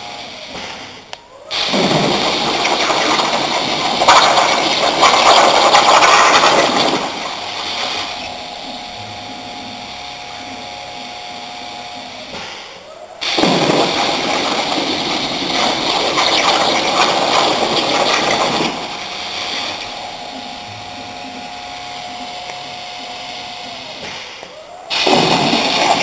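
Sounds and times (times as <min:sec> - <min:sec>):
plasma torch hissing: 0:00.0 - 0:09.4, 0:12.0 - 0:26.0
faint steady hum: 0:00.0 - 0:26.0.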